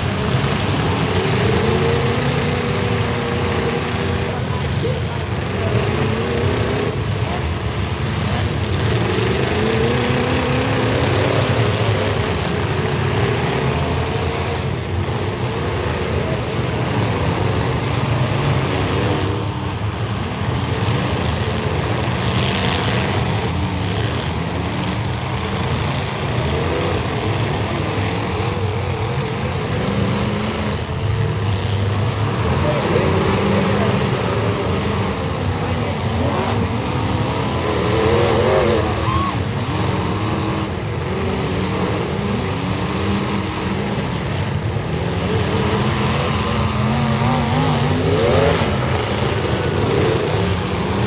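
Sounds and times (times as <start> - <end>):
car engines revving: 0.0 - 51.0.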